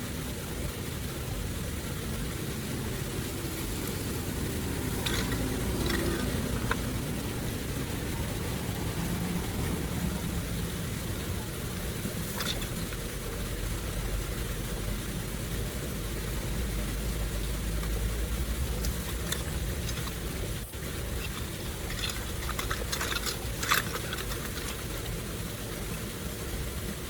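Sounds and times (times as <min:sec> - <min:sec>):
floodwater running: 0:00.0 - 0:27.0.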